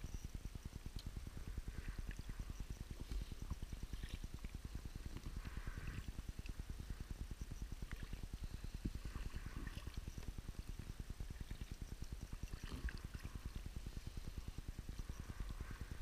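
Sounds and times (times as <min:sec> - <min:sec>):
low flutter: 0:00.0 - 0:16.0
paddle dipping and dripping: 0:00.9 - 0:06.6, 0:07.8 - 0:16.0.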